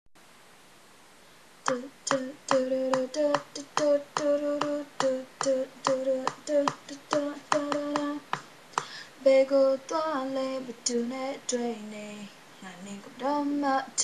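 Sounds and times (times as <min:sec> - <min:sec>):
young woman singing: 0:01.6 - 0:14.0.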